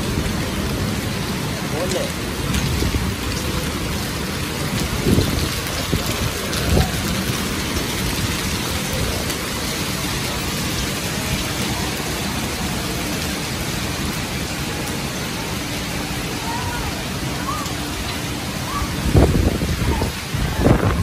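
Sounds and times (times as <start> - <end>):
hailstones: 0.0 - 21.0
heavy rain on paving stones: 0.0 - 21.0.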